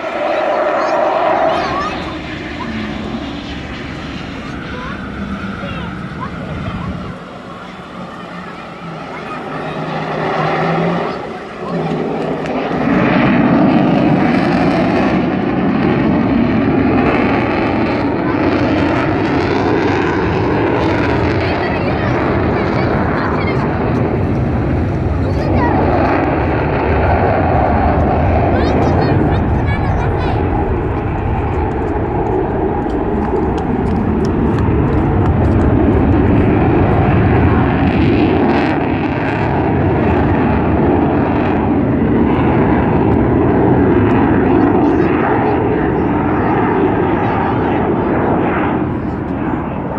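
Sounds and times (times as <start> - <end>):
jet engine roar: 0.0 - 49.9.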